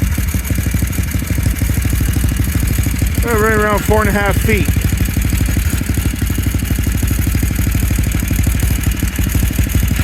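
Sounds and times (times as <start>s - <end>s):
snowblower engine idling: 0.0s - 10.0s.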